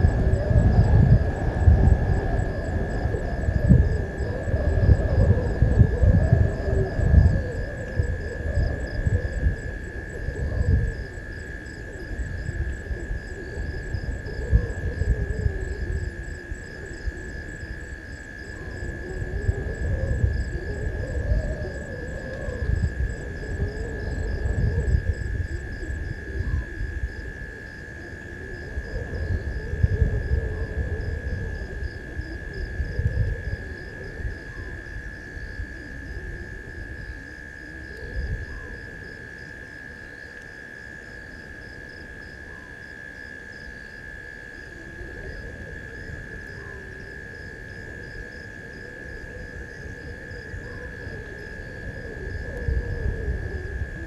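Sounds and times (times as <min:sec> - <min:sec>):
night insects whining: 0:00.0 - 0:54.0.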